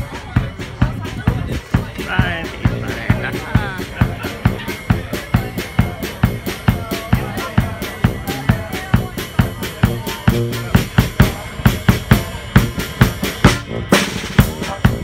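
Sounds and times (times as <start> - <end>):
brass band playing: 0.0 - 15.0
drum kit steady beat: 0.0 - 15.0.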